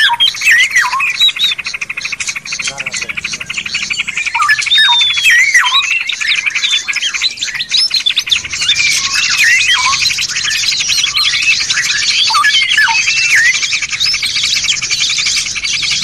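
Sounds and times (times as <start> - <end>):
fast rattling bird trill: 0.0 - 16.0
songbirds singing: 0.0 - 16.0.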